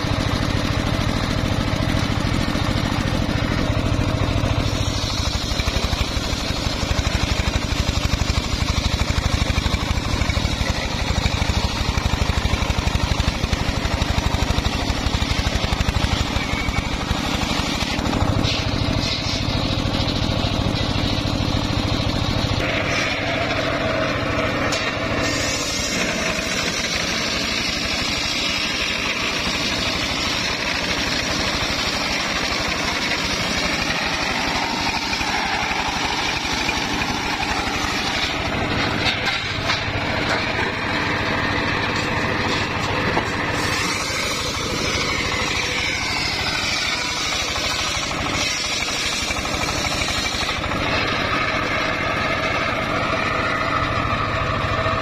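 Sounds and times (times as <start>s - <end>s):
saw blade cutting log: 0.0s - 55.0s
sawmill engine running: 0.0s - 55.0s.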